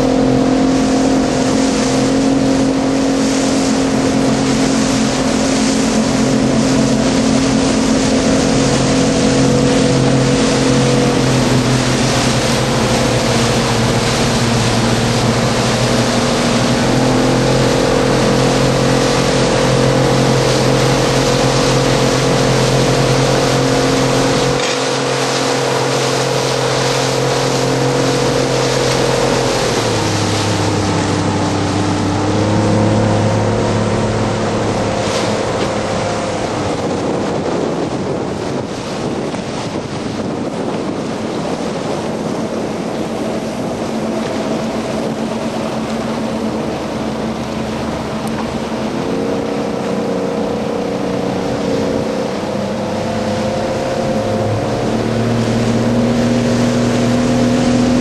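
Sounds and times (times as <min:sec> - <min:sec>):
motorboat engines running: 0:00.0 - 0:58.0
water splashing: 0:00.0 - 0:58.0
wind: 0:00.0 - 0:58.0.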